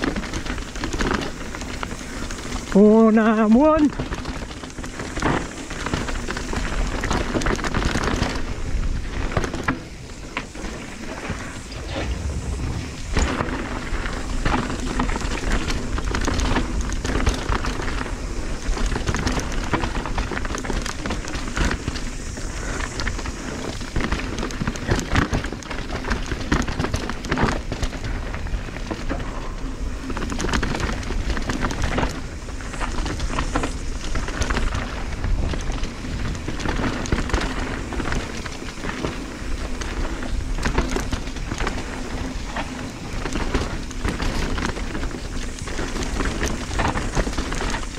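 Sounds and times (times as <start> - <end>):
bike rattling: 0.0 - 47.9
tyres crunching over dirt: 0.0 - 47.9
wind rumble on microphone: 0.0 - 47.9.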